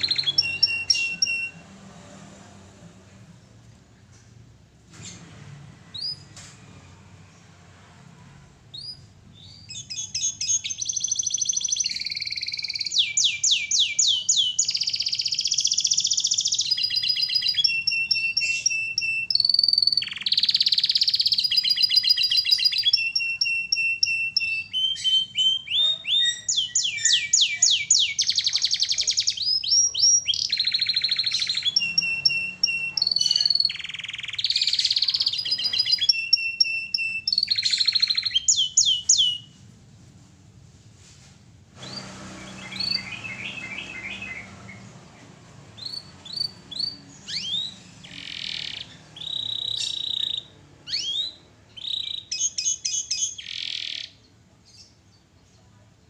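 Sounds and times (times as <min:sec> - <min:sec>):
canary singing trills: 0:00.0 - 0:01.7, 0:08.7 - 0:39.6, 0:41.8 - 0:55.7.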